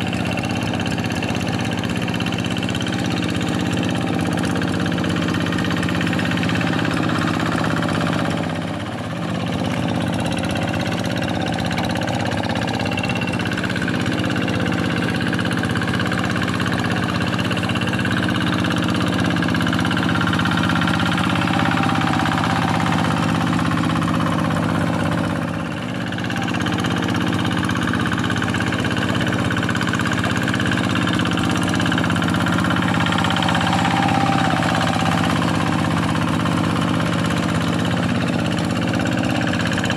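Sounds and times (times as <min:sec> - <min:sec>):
hand tractor diesel engine running: 0:00.0 - 0:39.9.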